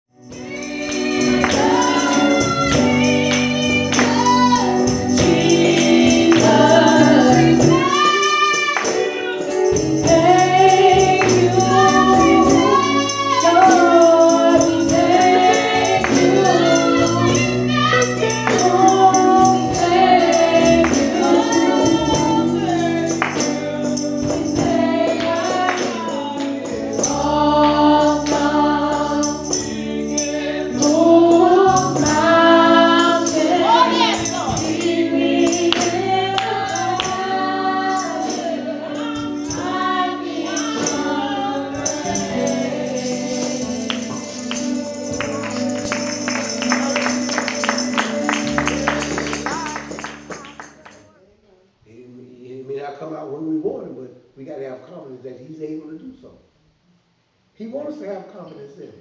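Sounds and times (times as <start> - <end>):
tambourine keeping the beat: 0.1 - 51.0
group gospel singing: 0.2 - 50.6.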